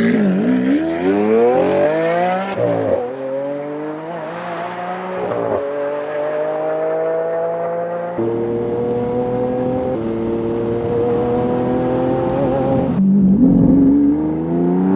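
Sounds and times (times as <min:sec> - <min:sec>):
car engine accelerating: 0:00.0 - 0:14.9.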